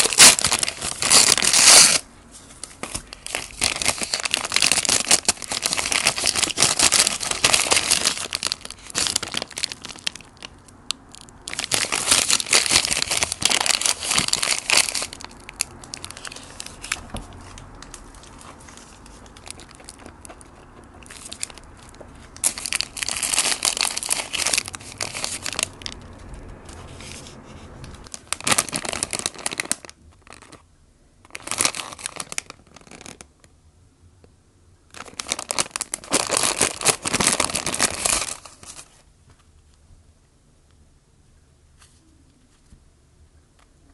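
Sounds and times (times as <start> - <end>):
paper wrapper crinkling: 0.0 - 27.3, 28.0 - 30.6, 31.3 - 33.4, 34.9 - 39.1.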